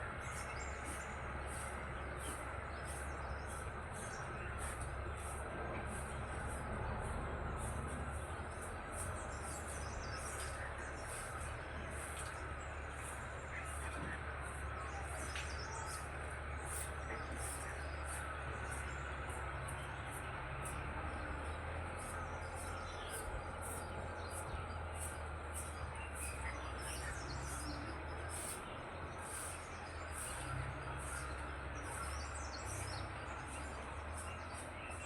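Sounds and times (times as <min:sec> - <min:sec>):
birds chirping: 0:00.0 - 0:35.0
steady low rumble: 0:00.0 - 0:35.0.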